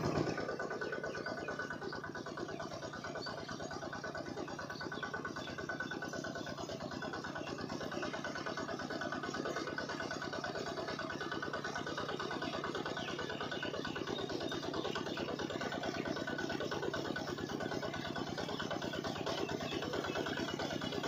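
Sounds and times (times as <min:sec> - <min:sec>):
model engine water pump running: 0:00.0 - 0:21.0.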